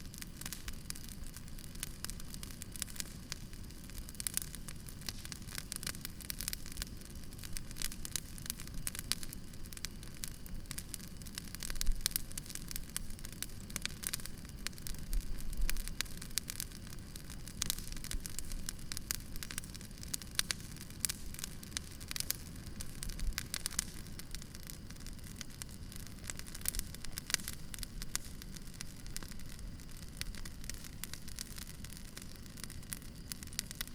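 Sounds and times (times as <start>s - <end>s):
campfire crackling and popping: 0.0s - 33.9s
low hiss: 0.0s - 33.9s.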